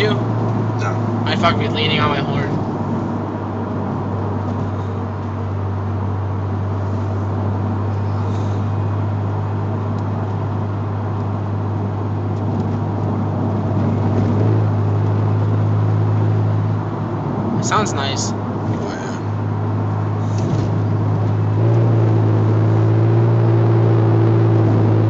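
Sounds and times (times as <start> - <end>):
car engine drone: 0.0 - 25.0.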